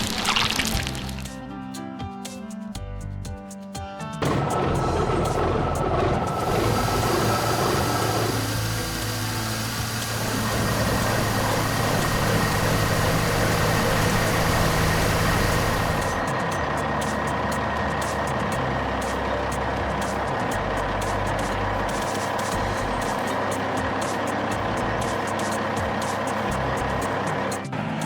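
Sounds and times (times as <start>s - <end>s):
heavy vehicle engine running: 4.2s - 28.0s.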